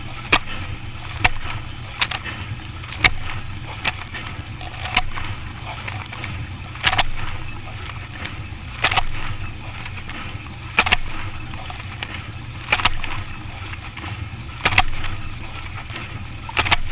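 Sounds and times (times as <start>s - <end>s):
dishwasher hum: 0.0s - 16.9s
dishwasher water swish: 0.0s - 16.9s.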